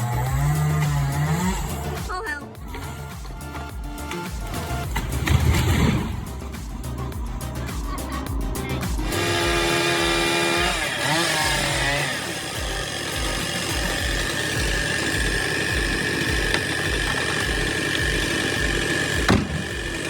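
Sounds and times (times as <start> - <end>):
motor-driven machine whining: 0.0 - 20.0
low thumping beat: 0.3 - 20.0.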